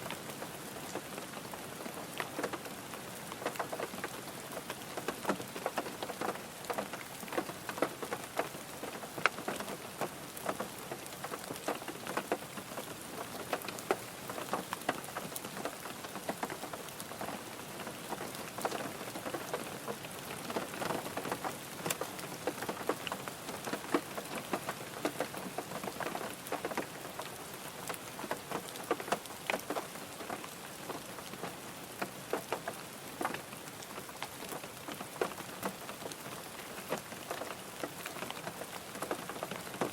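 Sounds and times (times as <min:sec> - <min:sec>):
rain drumming on car roof: 0:00.0 - 0:39.9.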